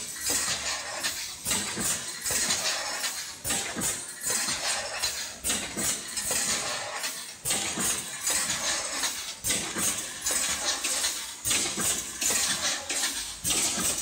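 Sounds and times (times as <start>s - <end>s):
production line machine clanking: 0.0s - 14.0s.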